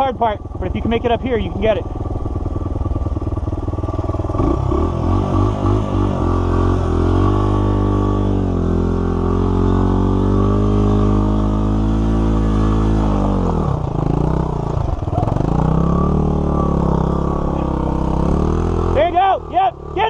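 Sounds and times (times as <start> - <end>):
dirt bike engines at low revs: 0.0 - 20.0.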